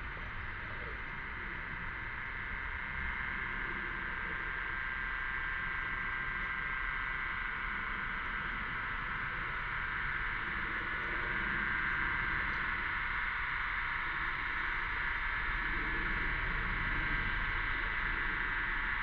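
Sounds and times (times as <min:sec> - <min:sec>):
cicada chorus: 0:00.0 - 0:19.0.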